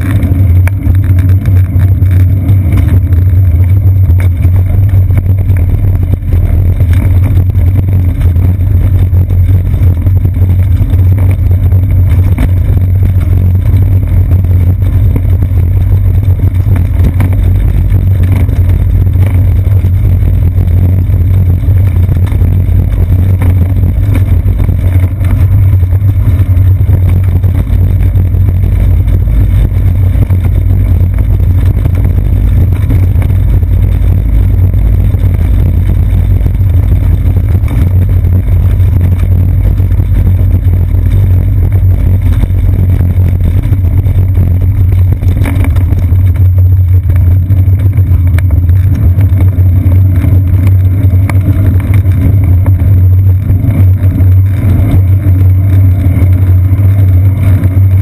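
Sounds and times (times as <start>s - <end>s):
road vibration rumble: 0.0s - 58.0s
wind: 0.0s - 58.0s.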